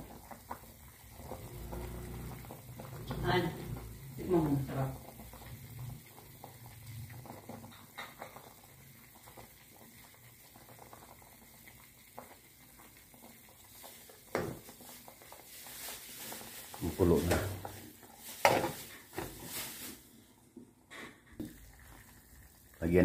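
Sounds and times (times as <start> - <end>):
soup bubbling: 0.0 - 20.2, 21.4 - 23.0.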